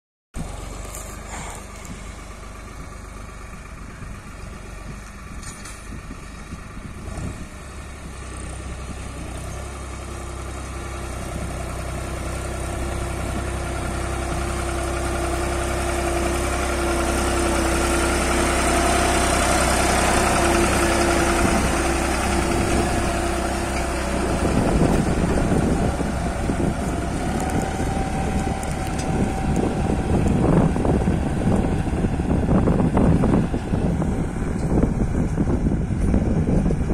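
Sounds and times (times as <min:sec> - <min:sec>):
tractor diesel engine running: 0:00.4 - 0:36.9.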